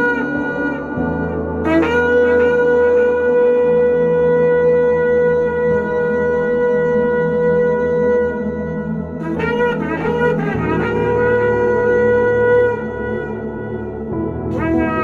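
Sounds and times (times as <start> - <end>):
shofar blowing long notes: 0.0 - 15.0.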